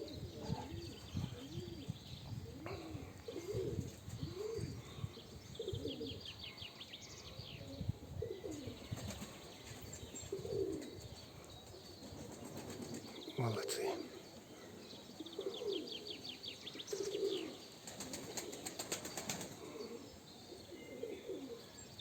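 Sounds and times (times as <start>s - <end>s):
pigeons cooing: 0.0s - 21.9s
small birds chirping: 0.0s - 22.0s.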